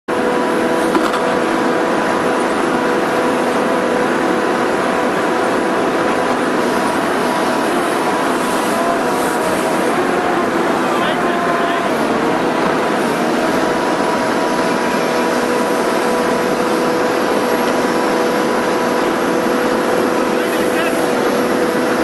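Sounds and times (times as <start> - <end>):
excavator engine droning: 0.1 - 22.0
high hydraulic whine: 0.1 - 22.0.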